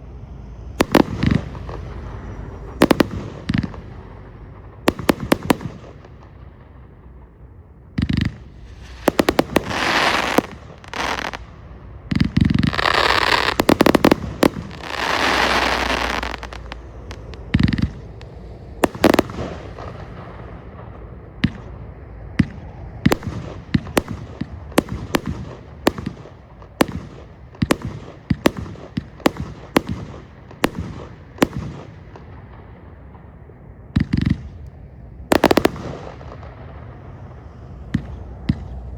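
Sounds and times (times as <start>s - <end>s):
firework shots banging: 0.8s - 7.4s, 8.0s - 33.3s, 35.3s - 37.0s.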